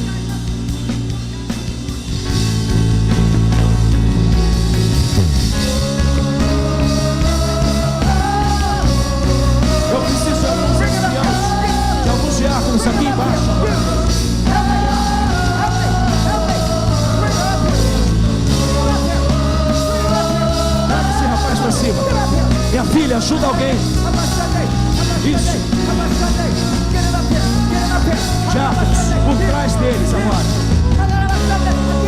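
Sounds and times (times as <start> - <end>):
many voices singing and calling: 0.0 - 2.4, 4.3 - 32.0
heavy bass: 0.0 - 32.0
loud worship music: 0.0 - 32.0.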